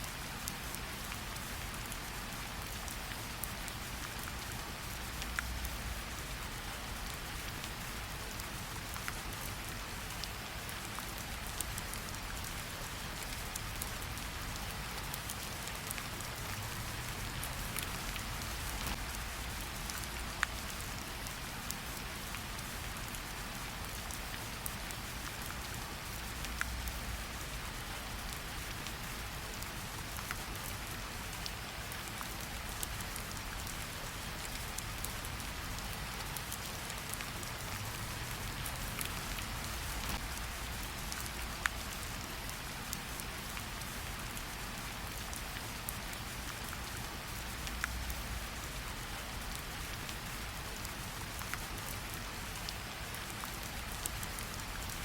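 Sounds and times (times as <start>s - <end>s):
light rain on leaves: 0.0s - 55.0s.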